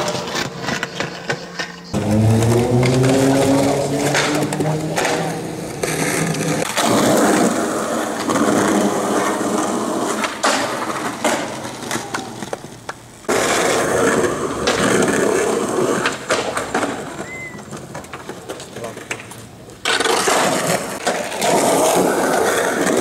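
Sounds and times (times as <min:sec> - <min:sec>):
skateboard wheels rolling on concrete: 0:00.0 - 0:23.0
skateboard clacks popping and landing: 0:04.0 - 0:23.0.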